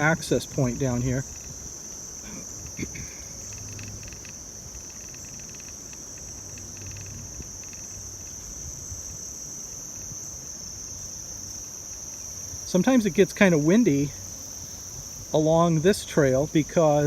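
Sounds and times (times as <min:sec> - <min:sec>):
insects trilling: 0:00.0 - 0:17.0
low pulsing insect chirps: 0:00.0 - 0:17.0.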